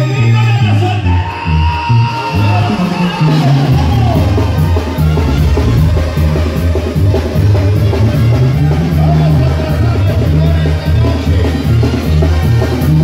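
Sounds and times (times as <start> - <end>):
brass band playing: 0.0 - 13.0
tuba bass line: 0.0 - 13.0
drum kit cymbal beat: 2.4 - 13.0.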